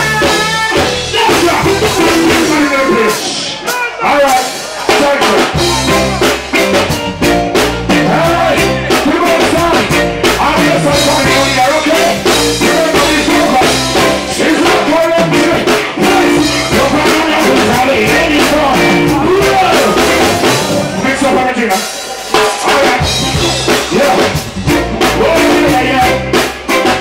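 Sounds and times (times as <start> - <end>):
man singing: 0.0 - 6.8, 7.5 - 27.0
live reggae band playing: 0.0 - 27.0.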